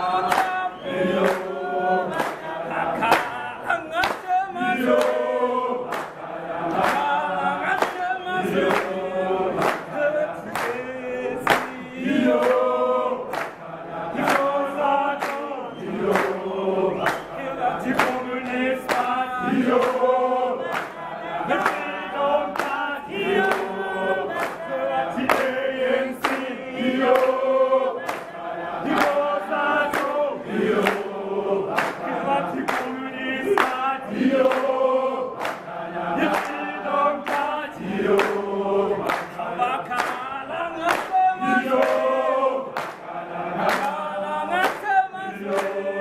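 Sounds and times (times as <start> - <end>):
crowd singing together: 0.0 - 46.0
hand claps: 0.0 - 46.0.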